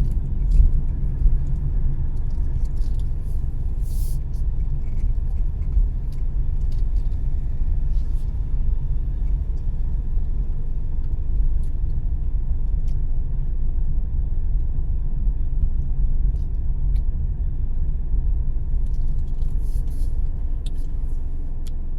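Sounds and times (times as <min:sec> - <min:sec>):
road and engine rumble: 0:00.0 - 0:21.9.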